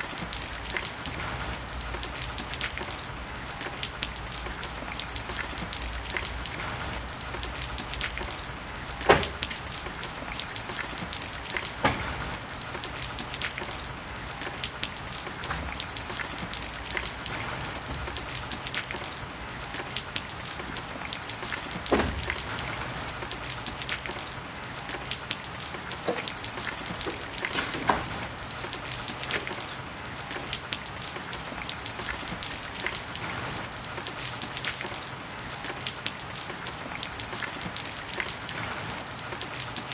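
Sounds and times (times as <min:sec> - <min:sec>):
rain pattering: 0:00.0 - 0:39.9
heavy drips knocking: 0:00.1 - 0:34.4.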